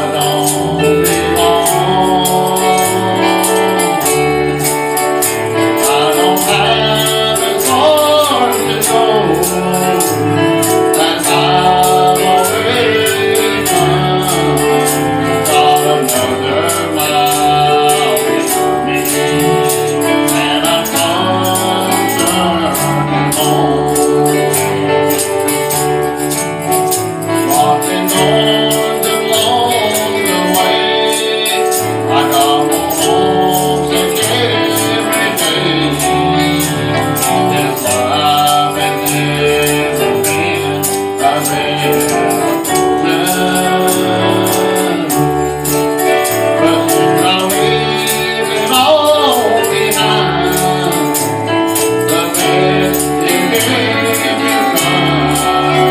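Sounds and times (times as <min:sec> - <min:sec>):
gospel singing: 0:00.0 - 0:55.9
tambourine shaking: 0:00.0 - 0:55.9.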